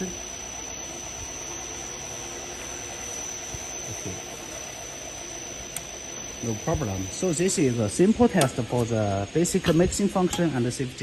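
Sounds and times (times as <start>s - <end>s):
mixer whirring with high whine: 0.0s - 11.0s.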